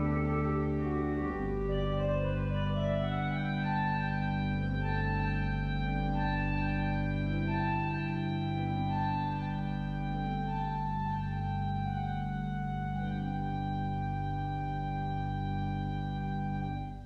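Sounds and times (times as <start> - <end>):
pipe organ playing chords: 0.0 - 17.0.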